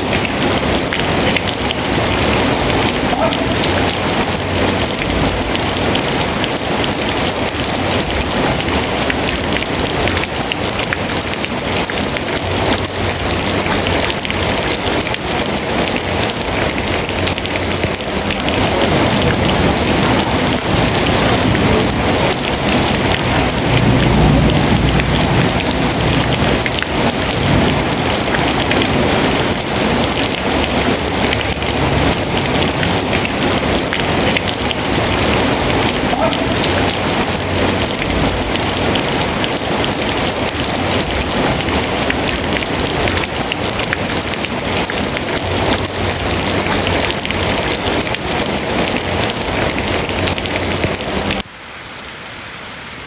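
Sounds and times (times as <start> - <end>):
heavy rainfall: 0.0 - 53.0.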